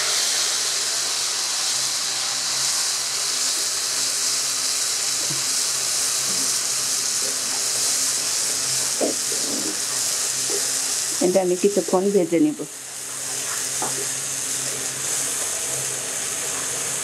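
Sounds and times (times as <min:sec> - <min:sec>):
paste frying in hot oil: 0:00.0 - 0:17.0.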